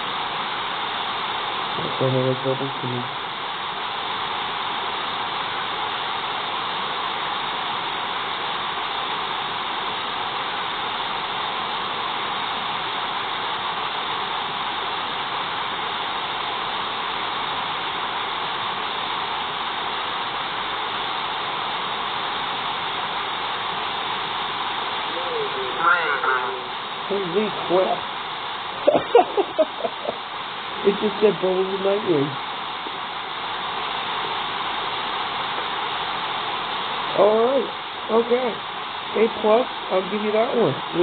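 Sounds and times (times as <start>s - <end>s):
brown noise hiss from phone: 0.0s - 41.0s.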